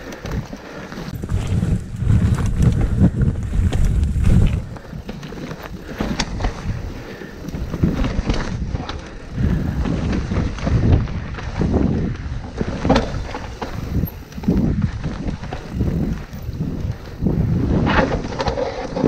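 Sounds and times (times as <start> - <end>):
bike clicks and knocks: 0.0 - 19.0
wind buffeting microphone: 0.2 - 19.0.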